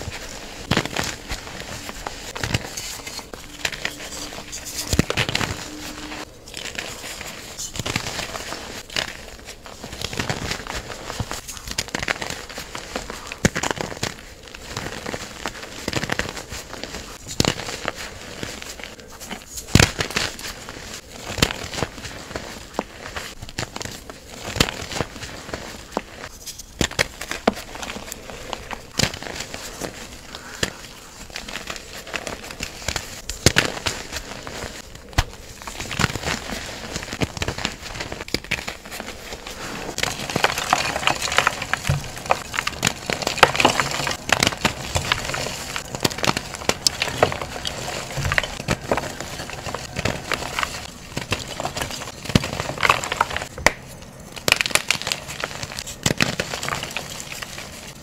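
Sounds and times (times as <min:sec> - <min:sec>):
chalk crunching and crumbling: 0:00.0 - 0:58.0.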